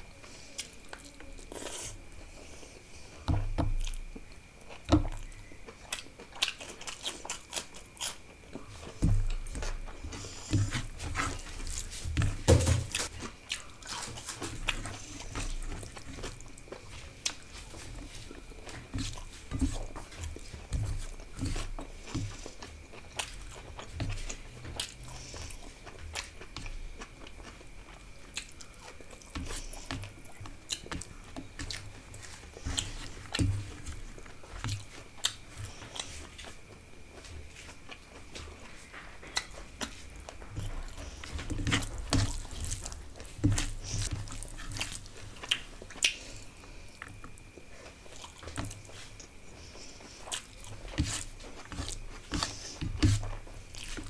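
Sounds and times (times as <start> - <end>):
wet chewing with lip smacks: 3.8 - 54.0.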